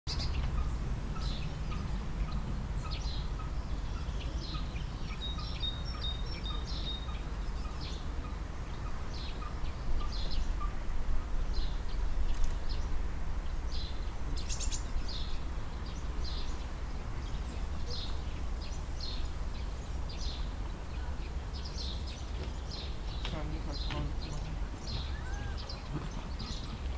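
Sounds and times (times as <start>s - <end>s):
birds chirping: 0.1s - 10.8s, 11.4s - 26.9s.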